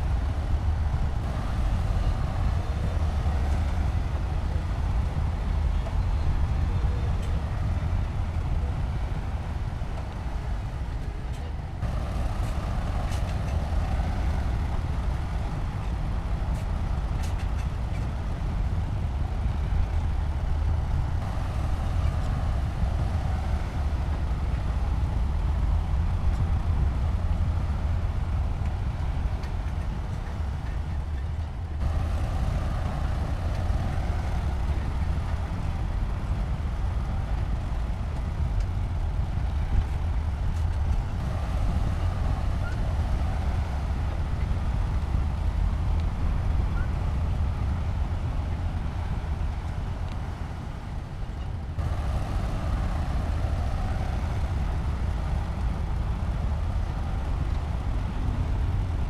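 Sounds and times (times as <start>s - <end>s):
heavy diesel machinery engine: 0.0s - 59.0s.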